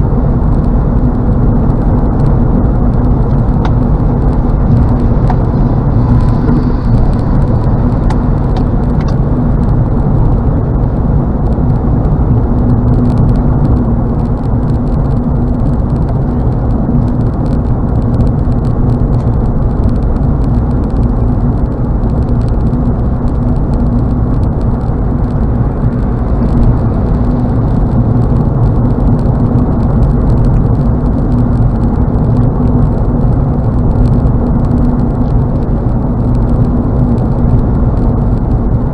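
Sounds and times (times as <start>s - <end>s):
car cabin road and engine drone: 0.0s - 38.9s.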